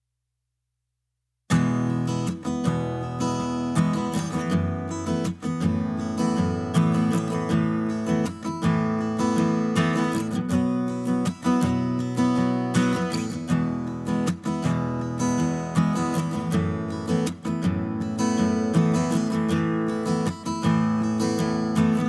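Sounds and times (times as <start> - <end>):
strummed acoustic guitar: 1.5 - 22.0.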